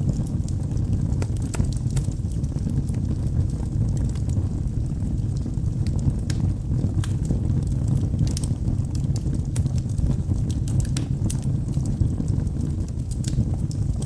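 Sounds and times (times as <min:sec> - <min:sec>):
fire flames rumbling: 0:00.0 - 0:14.0
logs crackling and popping: 0:00.0 - 0:14.0.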